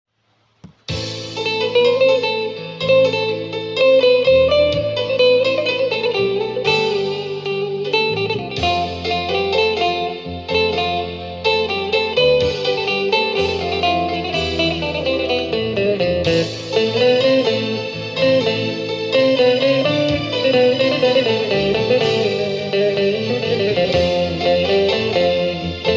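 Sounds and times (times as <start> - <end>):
plucked guitar-like instrumental music: 0.6 - 25.9.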